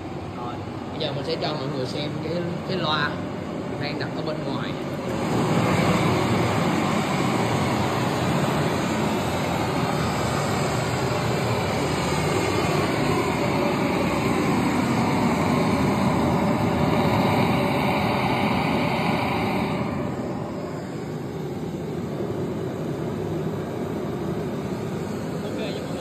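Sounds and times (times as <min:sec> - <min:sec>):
loud broadband test noise: 0:00.0 - 0:26.0.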